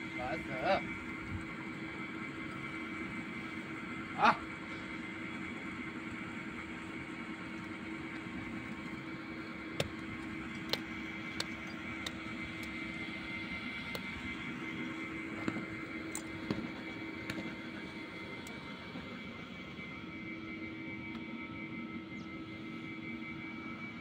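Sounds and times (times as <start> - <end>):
motor hum: 0.0 - 24.0.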